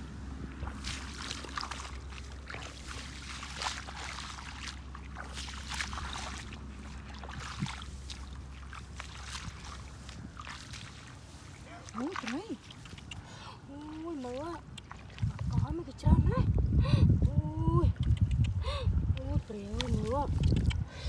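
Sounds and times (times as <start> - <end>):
bare feet splashing through mud: 0.0 - 16.1, 18.7 - 21.0
steady low hum: 0.0 - 21.0.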